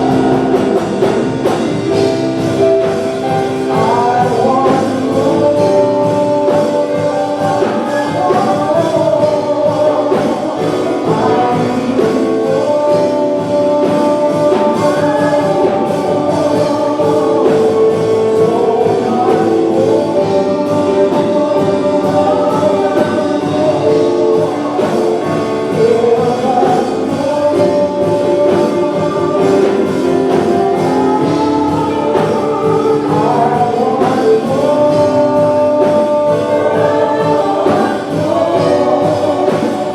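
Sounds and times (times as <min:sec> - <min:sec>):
band playing a steady beat: 0:00.0 - 0:39.9
choir and congregation singing: 0:00.0 - 0:39.9.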